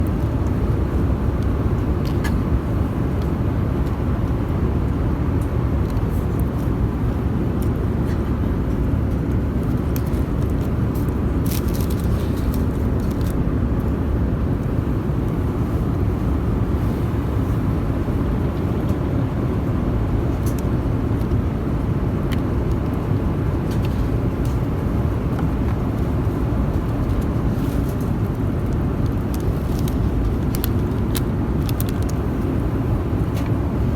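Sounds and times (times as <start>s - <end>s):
airliner engine and airflow rumble: 0.0s - 33.9s.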